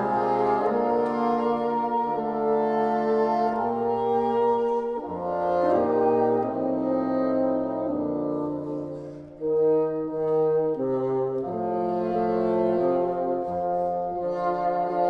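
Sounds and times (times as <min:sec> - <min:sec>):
bassoon quartet playing chords: 0:00.0 - 0:15.0.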